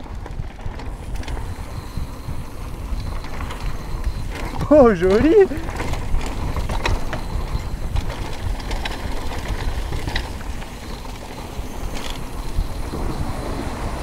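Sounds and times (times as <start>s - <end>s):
bike clicks and rattles: 0.0s - 14.0s
bike tyres rumbling on dirt: 0.0s - 14.0s.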